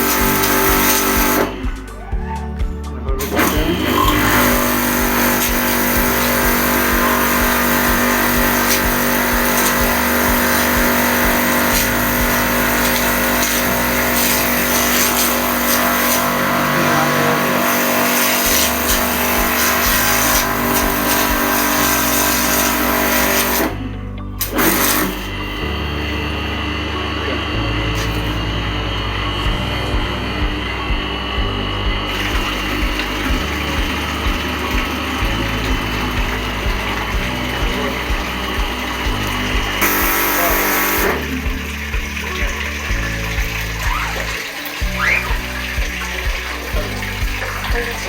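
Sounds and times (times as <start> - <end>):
water jet hissing: 0.0 - 1.8, 3.2 - 23.8, 24.4 - 25.7, 32.0 - 48.0
pressure washer motor humming: 0.0 - 48.0.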